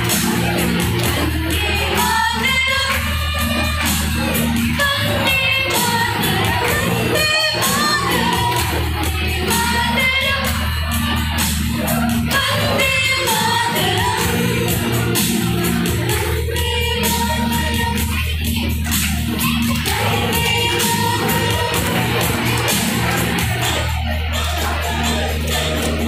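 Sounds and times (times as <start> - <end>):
backing music with steady beat: 0.0 - 26.0
women singing through a pa: 1.1 - 3.9, 4.7 - 18.8, 19.4 - 26.0.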